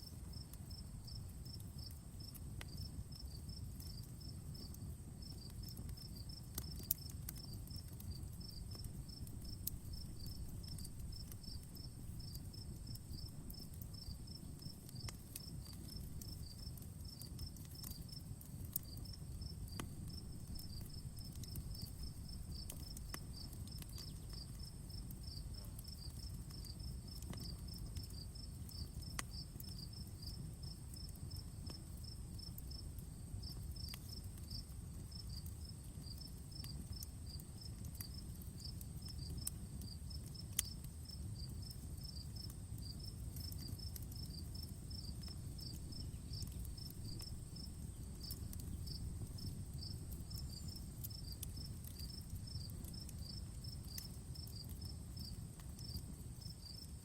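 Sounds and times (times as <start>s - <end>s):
wood fire crackling: 0.0s - 57.0s
insect chirping: 0.3s - 57.0s.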